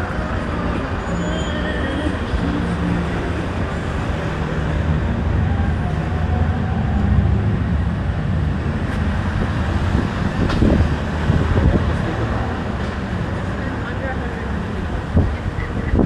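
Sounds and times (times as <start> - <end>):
city street rumble: 0.0 - 16.0.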